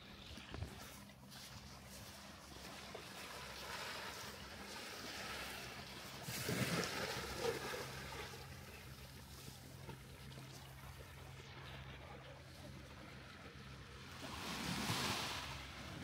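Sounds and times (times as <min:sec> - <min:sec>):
low motor hum: 0:00.0 - 0:16.0
water noise: 0:00.0 - 0:16.0.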